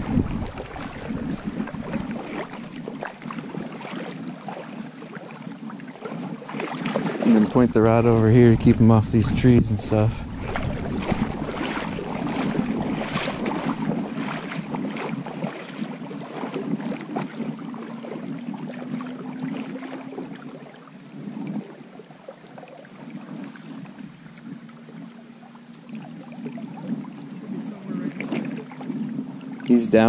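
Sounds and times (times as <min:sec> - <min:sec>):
river water splashing and rushing: 0:00.0 - 0:30.0.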